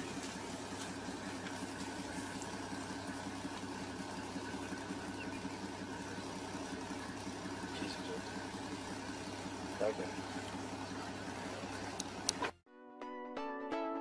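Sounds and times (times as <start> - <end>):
vehicle engine idling: 0.0 - 12.6.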